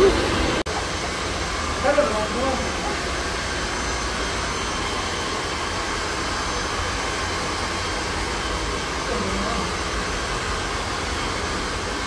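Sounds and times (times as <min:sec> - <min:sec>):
blower rushing air: 0:00.0 - 0:12.0.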